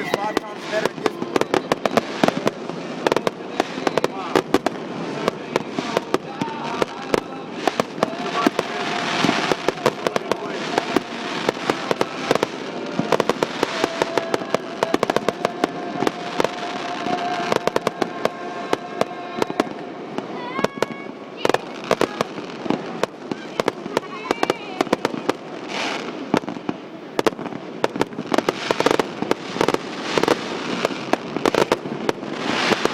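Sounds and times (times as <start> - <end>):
fireworks bangs and crackles: 0.0 - 32.9
fireworks whistling: 0.0 - 32.9
rising fireworks whistles: 0.0 - 32.9.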